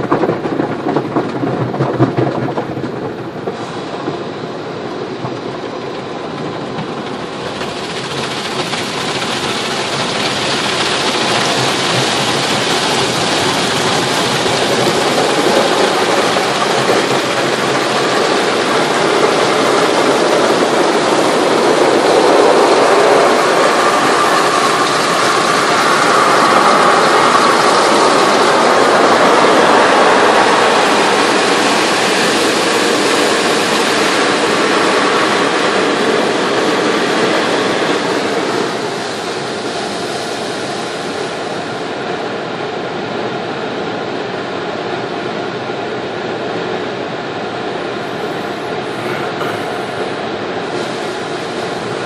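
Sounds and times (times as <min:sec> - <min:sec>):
car wash rushing and rumbling: 0:00.0 - 0:52.0.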